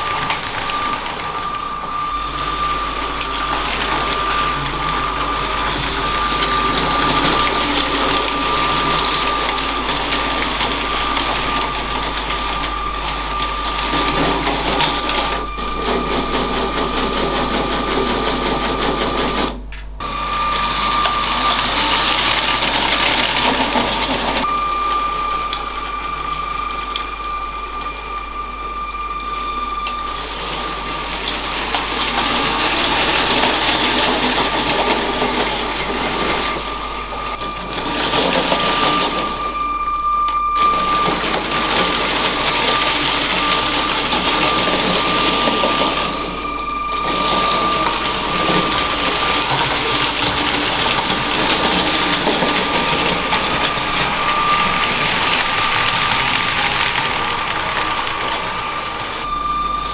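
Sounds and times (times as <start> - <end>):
small electric motor whining: 0.0 - 59.9.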